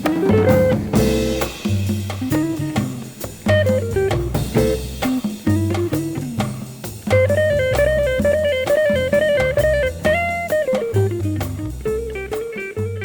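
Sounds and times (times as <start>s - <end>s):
bass: 0.0s - 13.0s
blues guitar melody: 0.0s - 13.0s
drums: 0.0s - 13.0s.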